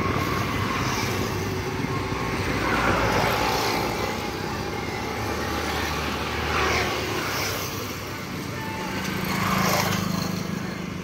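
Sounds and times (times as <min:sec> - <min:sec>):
motorcycles passing: 0:00.0 - 0:11.0
road traffic: 0:00.0 - 0:11.0.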